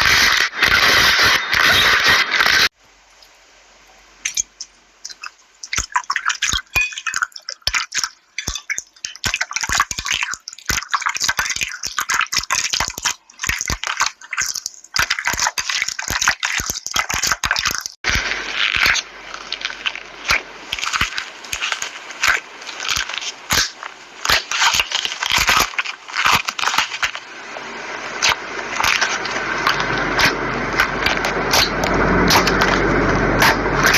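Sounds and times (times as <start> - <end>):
slime crackling: 5.1 - 33.9.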